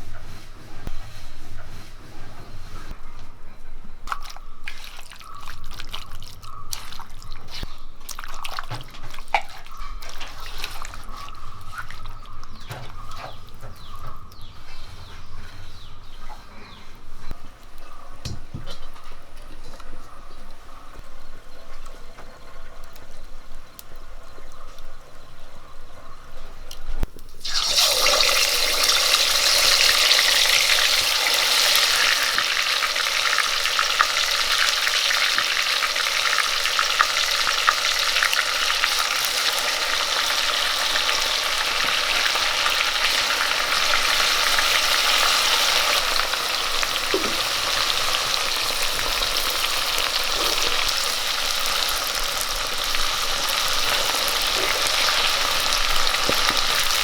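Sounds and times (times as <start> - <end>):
oil popping: 4.0 - 14.4, 18.2 - 57.0
chicken deep-frying in oil: 4.0 - 16.4, 17.2 - 57.0.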